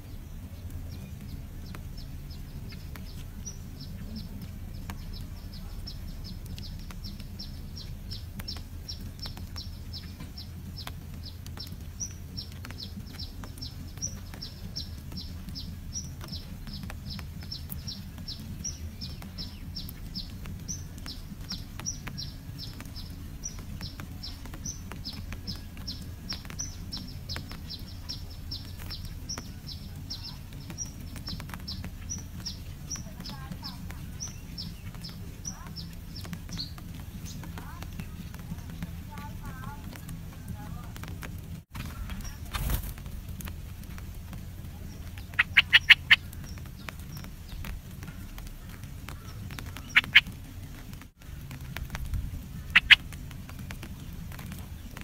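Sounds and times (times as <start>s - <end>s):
low steady hum: 0.0s - 55.0s
small bird chirping: 0.0s - 55.0s.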